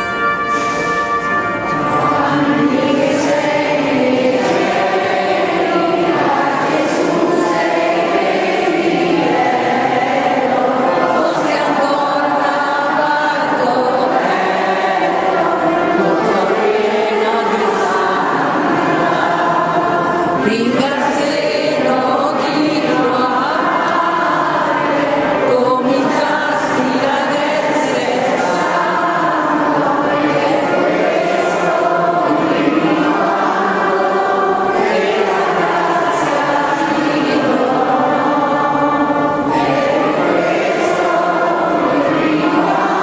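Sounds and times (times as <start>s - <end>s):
congregation singing a hymn: 0.0s - 43.0s.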